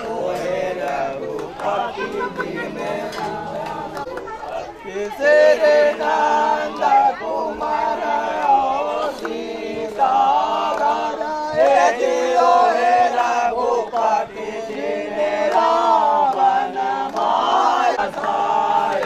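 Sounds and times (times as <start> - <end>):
group of people chanting: 0.0 - 19.0.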